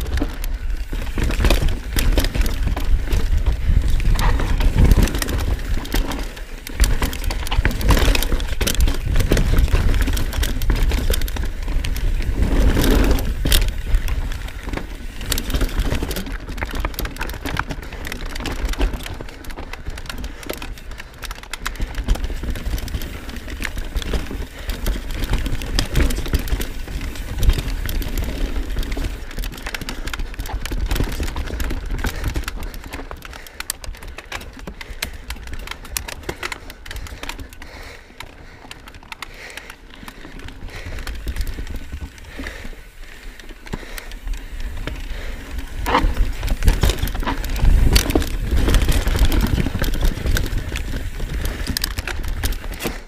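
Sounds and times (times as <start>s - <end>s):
bike tyres rolling over rock: 0.0s - 53.0s.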